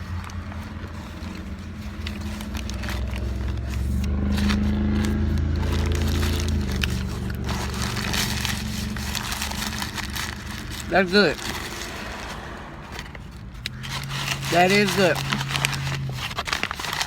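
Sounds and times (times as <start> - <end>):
chewing crispy food: 0.0 - 12.7, 13.6 - 17.0
low hum: 0.0 - 14.5.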